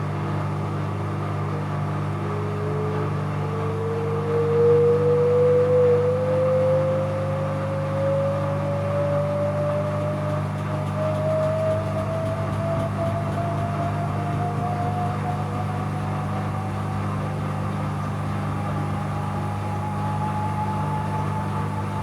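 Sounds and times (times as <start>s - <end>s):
washing machine motor hum: 0.0s - 22.0s
rising motor whine: 2.2s - 22.0s.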